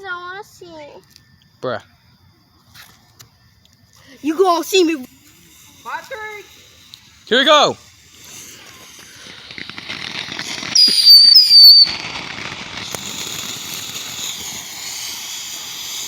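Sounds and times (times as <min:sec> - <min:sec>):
firework whistles: 0:00.0 - 0:16.0
firework hissing: 0:01.9 - 0:16.0.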